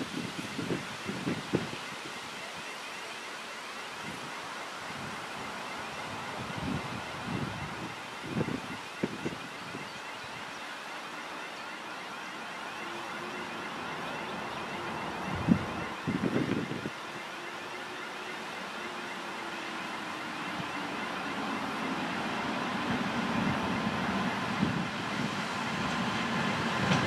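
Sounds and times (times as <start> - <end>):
diesel locomotive engine hum: 0.0 - 27.0.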